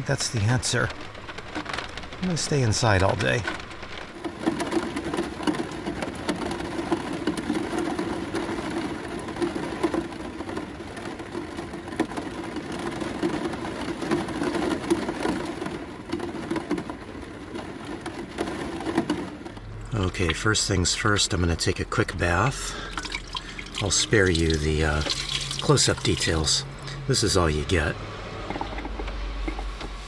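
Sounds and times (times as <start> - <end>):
rain on a van roof: 0.0 - 30.0.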